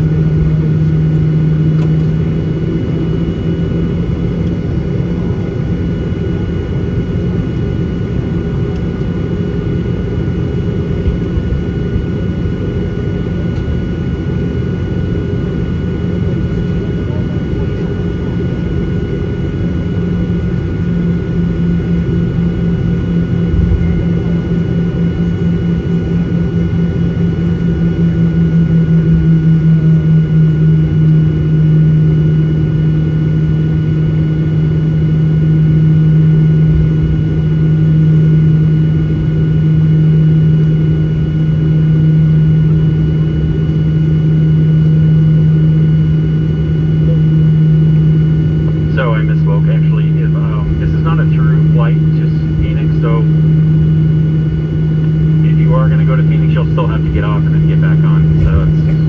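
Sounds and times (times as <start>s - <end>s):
faint high engine whine: 0.0s - 59.0s
jet engines droning at idle: 0.0s - 59.0s.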